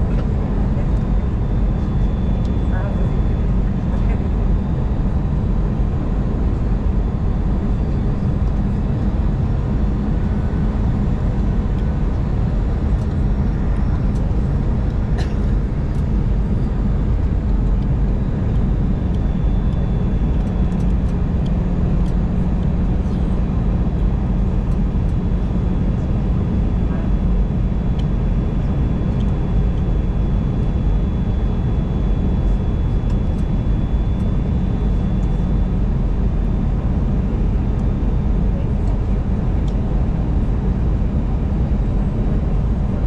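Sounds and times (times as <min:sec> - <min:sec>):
airliner engines humming in cabin: 0:00.0 - 0:43.0.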